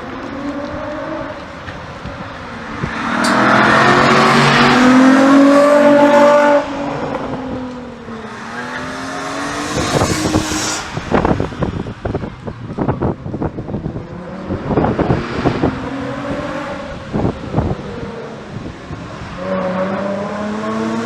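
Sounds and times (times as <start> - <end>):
sports car engines passing: 0.0 - 21.0.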